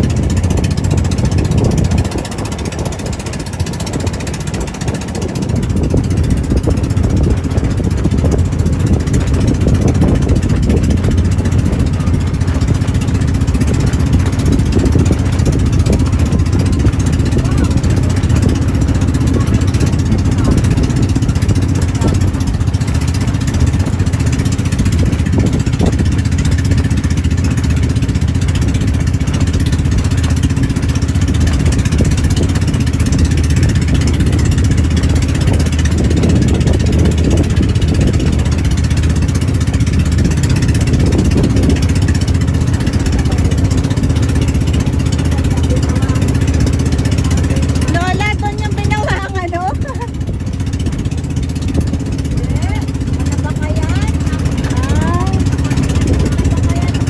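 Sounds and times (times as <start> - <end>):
boat engine running: 0.0 - 57.0
water rushing past hull: 0.0 - 57.0.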